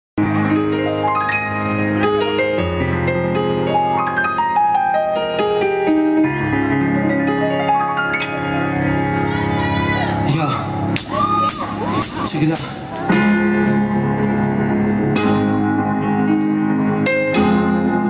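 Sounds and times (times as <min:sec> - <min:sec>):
solo piano playing: 0:00.2 - 0:18.0.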